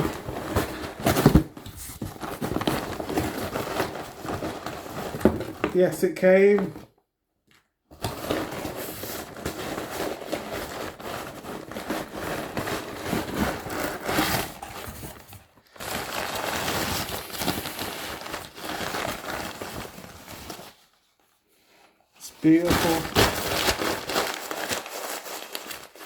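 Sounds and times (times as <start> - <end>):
packaging rustling and crinkling: 0.0 - 5.7, 7.6 - 21.4, 22.2 - 26.0.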